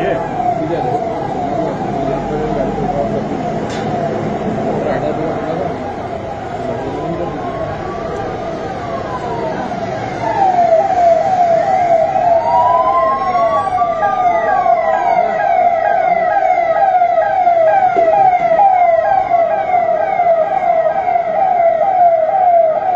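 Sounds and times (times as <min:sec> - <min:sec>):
police siren wailing: 0:00.0 - 0:22.9
slower rising and falling siren: 0:00.0 - 0:22.9.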